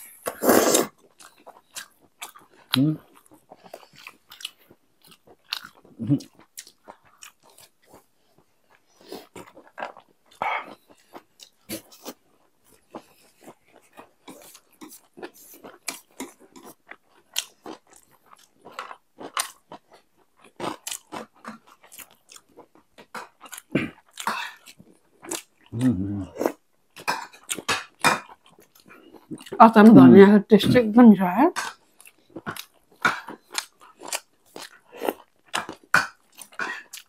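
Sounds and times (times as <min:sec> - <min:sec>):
chewing and crunching food: 0:00.0 - 0:30.1, 0:31.5 - 0:37.0.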